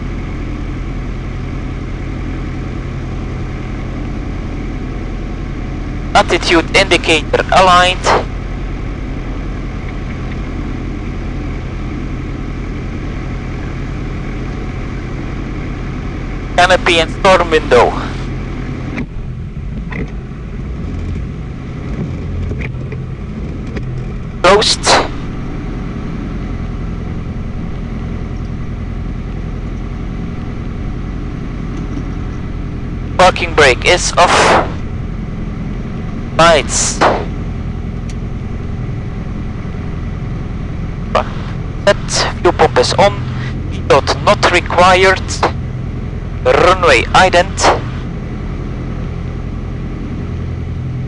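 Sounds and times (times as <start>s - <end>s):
light aircraft engine idling: 0.0s - 51.0s.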